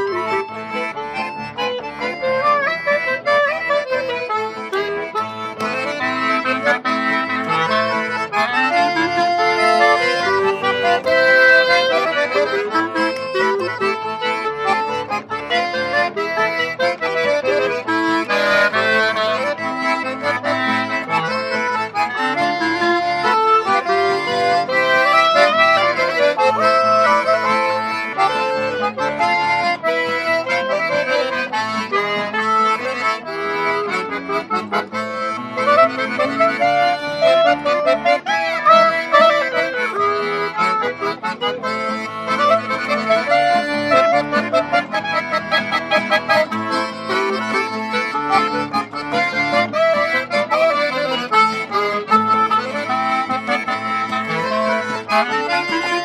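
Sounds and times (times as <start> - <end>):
button accordion: 0.0 - 56.0
folk trio playing: 0.0 - 56.0.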